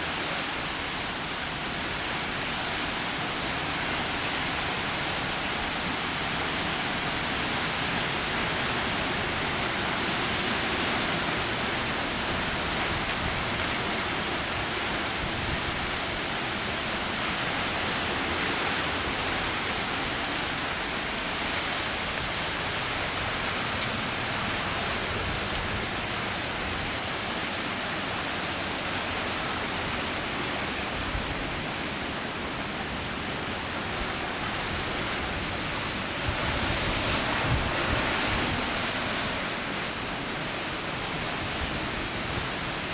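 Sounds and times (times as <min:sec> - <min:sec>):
heavy rain: 0:00.0 - 0:42.9
hurricane wind: 0:00.0 - 0:42.9.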